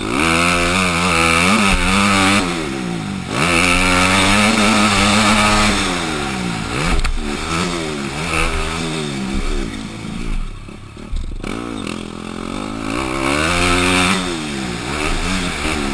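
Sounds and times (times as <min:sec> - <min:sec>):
motocross bike engine revving: 0:00.0 - 0:15.9.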